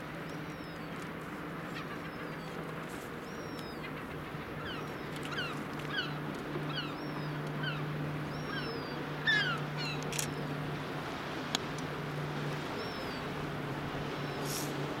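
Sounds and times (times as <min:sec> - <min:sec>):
boat engine hum: 0:00.0 - 0:15.0
birds calling: 0:00.3 - 0:10.9, 0:11.8 - 0:14.9.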